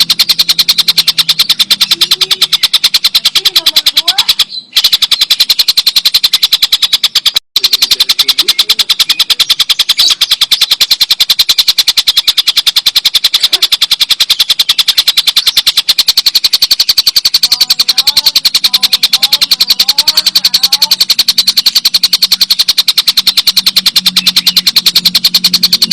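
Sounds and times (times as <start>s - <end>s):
faint bird chirps: 0.0s - 25.9s.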